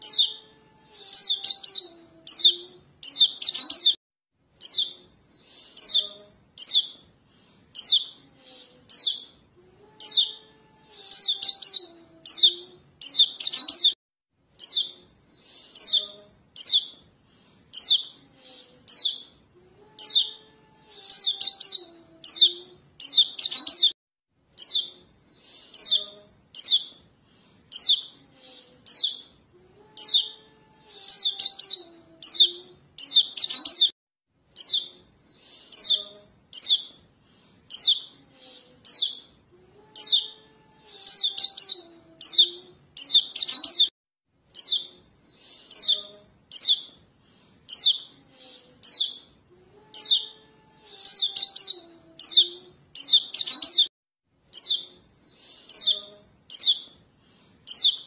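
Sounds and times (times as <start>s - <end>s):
high bird chirps: 0.0s - 4.0s, 4.6s - 7.0s, 7.7s - 14.0s, 14.6s - 17.0s, 17.7s - 24.0s, 24.6s - 27.0s, 27.7s - 37.0s, 37.7s - 47.0s, 47.7s - 53.9s, 54.5s - 57.0s, 57.7s - 58.0s.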